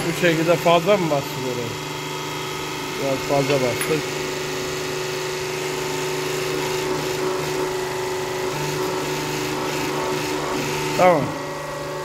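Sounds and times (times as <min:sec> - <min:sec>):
machine motor humming: 0:00.0 - 0:12.0.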